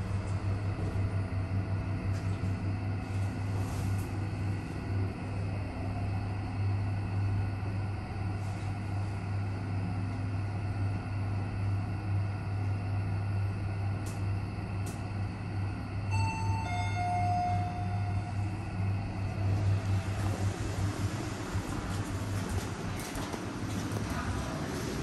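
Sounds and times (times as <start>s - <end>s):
lift car low hum: 0.0s - 25.0s.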